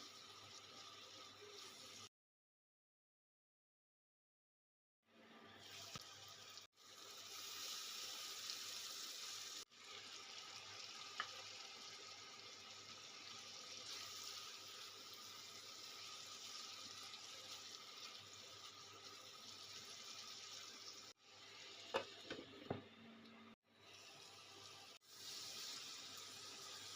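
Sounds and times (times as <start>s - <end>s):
prawns sizzling in a pan: 0.0s - 2.1s, 5.5s - 22.4s, 23.7s - 26.9s.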